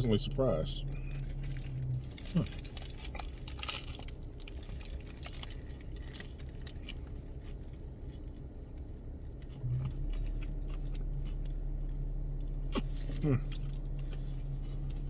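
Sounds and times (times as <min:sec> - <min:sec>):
low steady hum: 0:00.0 - 0:15.0
chewing crunchy taco shell: 0:00.8 - 0:15.0.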